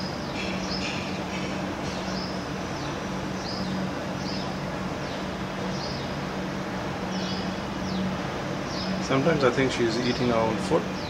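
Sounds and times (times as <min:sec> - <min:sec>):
steady hiss and low hum: 0:00.0 - 0:11.0.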